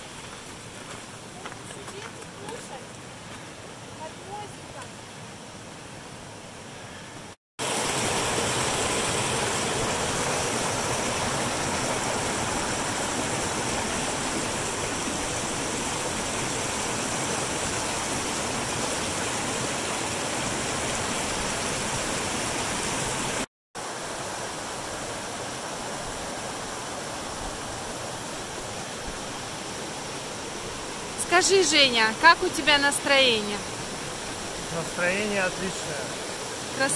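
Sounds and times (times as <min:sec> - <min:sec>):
creek rushing over stones: 0:00.0 - 0:06.7, 0:07.6 - 0:36.9.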